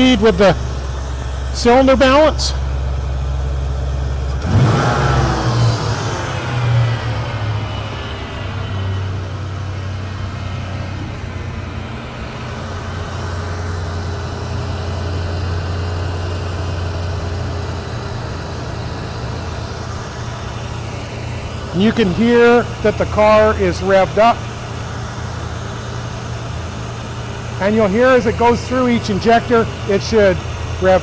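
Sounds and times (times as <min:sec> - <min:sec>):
car engine at raised idle: 0:00.0 - 0:31.0.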